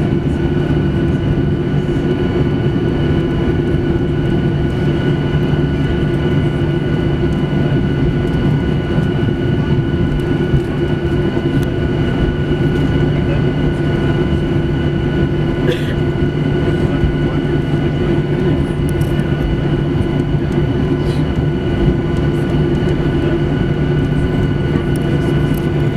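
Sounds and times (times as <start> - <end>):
airplane cabin rumble: 0.0 - 25.9
jet engines humming and whining: 0.0 - 25.9.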